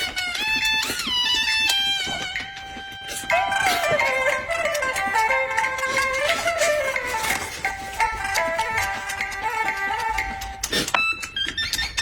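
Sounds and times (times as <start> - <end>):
plucked instrumental melody with beat: 0.0 - 12.0.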